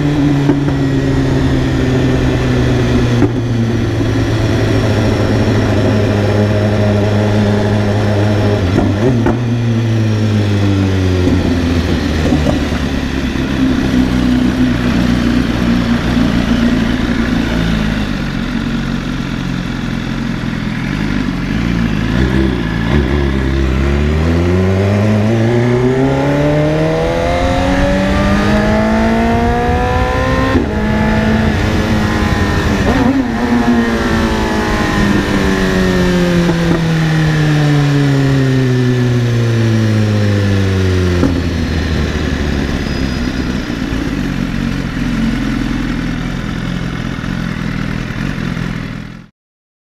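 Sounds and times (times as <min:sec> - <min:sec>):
motorcycle engine running: 0:00.0 - 0:49.3.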